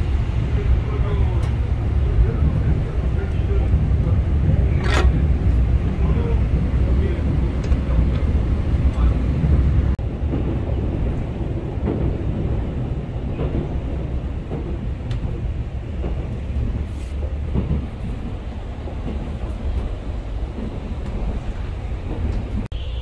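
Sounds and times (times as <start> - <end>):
train carriage rumbling on track: 0.0 - 23.0.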